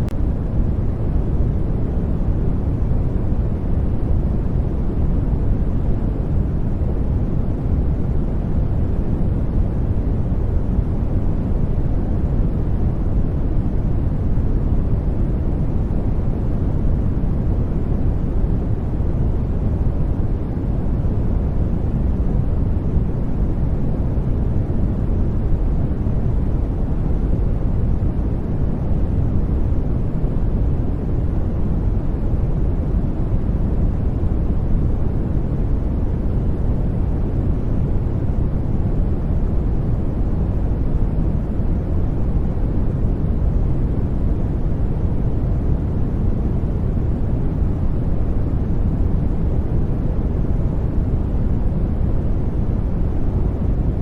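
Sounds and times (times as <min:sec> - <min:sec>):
deep muffled white noise: 0:00.0 - 0:54.0.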